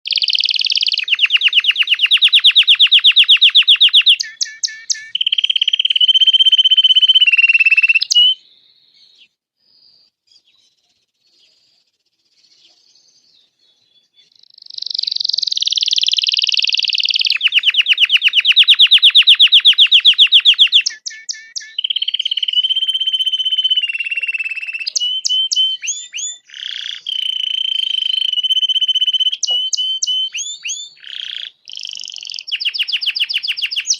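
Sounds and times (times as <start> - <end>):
canary singing trills: 0.0 - 9.4, 12.4 - 33.9.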